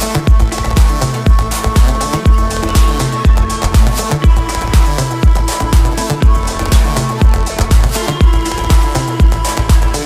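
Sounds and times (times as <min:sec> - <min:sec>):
electronic dance music: 0:00.0 - 0:10.0
steady kick drum: 0:00.0 - 0:10.0
sustained synth tones: 0:00.0 - 0:10.0.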